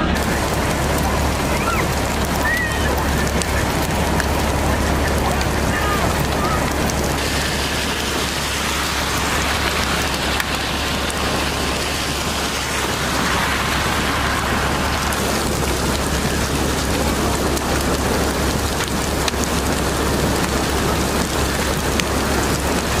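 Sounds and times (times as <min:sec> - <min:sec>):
heavy rain on pavement: 0:00.0 - 0:23.0
low rumble: 0:00.0 - 0:23.0
sharp raindrop ticks: 0:00.0 - 0:23.0.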